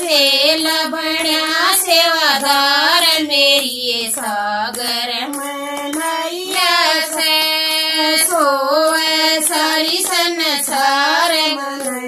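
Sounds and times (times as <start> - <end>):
hand claps: 0.0 - 12.0
women singing together: 0.0 - 12.0.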